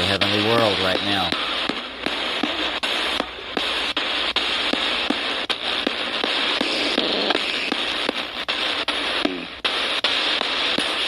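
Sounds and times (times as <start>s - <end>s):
static hiss: 0.0s - 11.0s.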